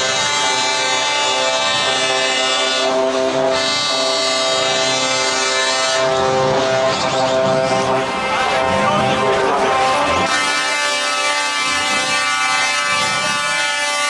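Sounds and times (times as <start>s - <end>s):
truck air horns blaring: 0.0s - 14.0s.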